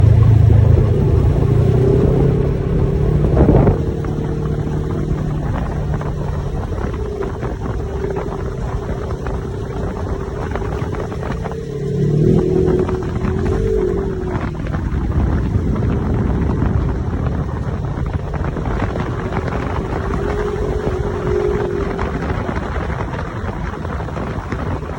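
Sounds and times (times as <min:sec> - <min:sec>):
utility vehicle engine running: 0:00.0 - 0:24.9.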